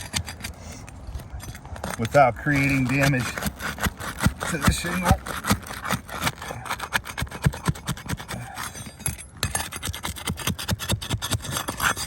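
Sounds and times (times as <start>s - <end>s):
hand tool scraping shingles: 0.0s - 12.0s.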